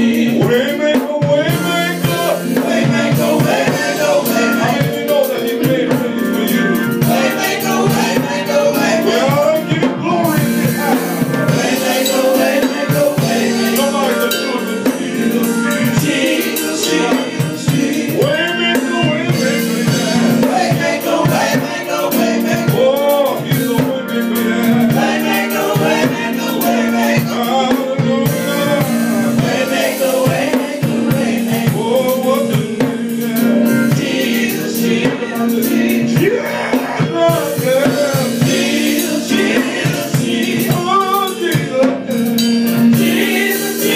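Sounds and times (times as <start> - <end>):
drum kit and band: 0.0 - 43.9
gospel group singing: 0.0 - 43.9.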